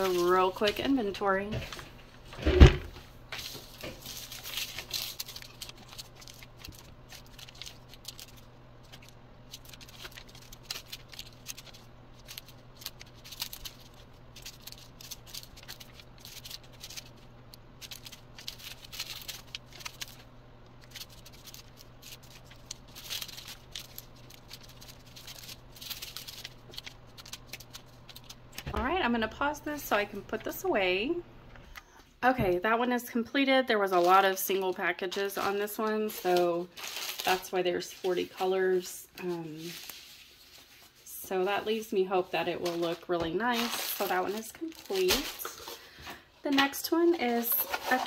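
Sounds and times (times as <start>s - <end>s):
plastic crinkling: 0.0s - 30.6s, 33.7s - 48.0s
beads rattling in plastic bags: 3.4s - 28.4s, 33.8s - 45.9s, 46.5s - 48.0s.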